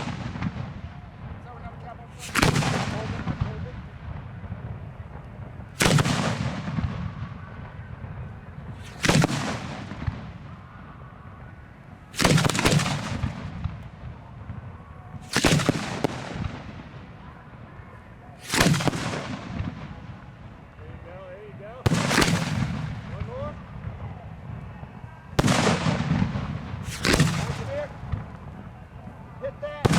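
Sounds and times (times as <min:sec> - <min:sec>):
fireworks booming: 0:00.0 - 0:10.8, 0:12.1 - 0:17.4, 0:18.4 - 0:20.7, 0:21.8 - 0:29.9.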